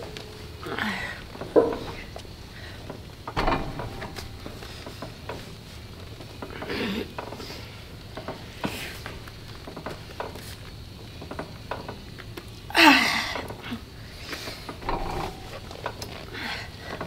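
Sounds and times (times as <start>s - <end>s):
exercise machine clicks and knocks: 1.2s - 12.7s, 13.3s - 17.0s.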